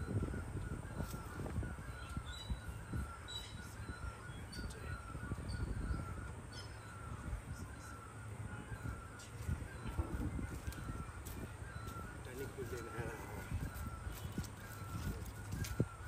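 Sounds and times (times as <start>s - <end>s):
birds calling: 0.0s - 16.0s
wind on microphone: 0.0s - 16.0s.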